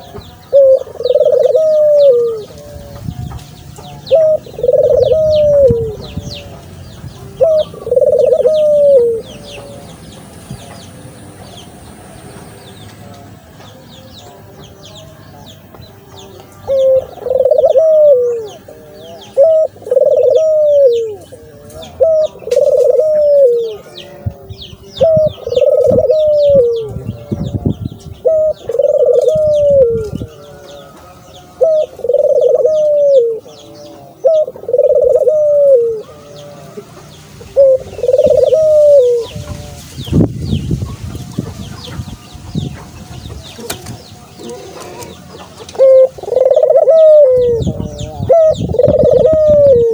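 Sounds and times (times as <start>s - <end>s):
dove cooing: 0.0s - 12.1s, 12.7s - 49.9s.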